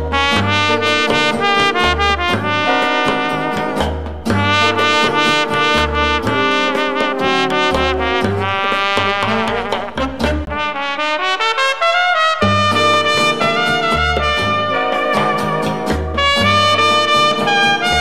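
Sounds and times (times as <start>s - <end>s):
repeating bass line: 0.0s - 10.6s, 12.4s - 18.0s
upbeat brass music with trumpet: 0.0s - 18.0s.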